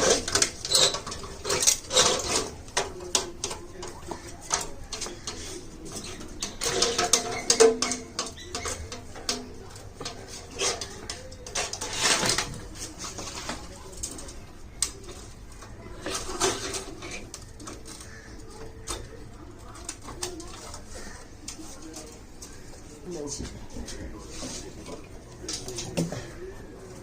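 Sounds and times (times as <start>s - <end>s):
parts being handled: 0.0s - 27.0s.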